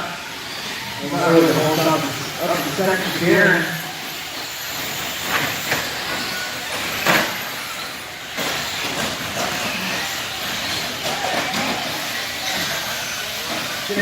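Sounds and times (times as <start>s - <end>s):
toy car motors whirring: 0.0s - 14.0s.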